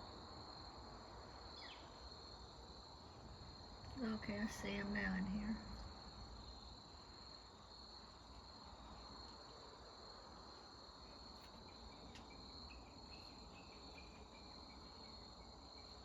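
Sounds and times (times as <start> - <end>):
insect chorus trilling: 1.4 - 9.4, 10.0 - 16.0.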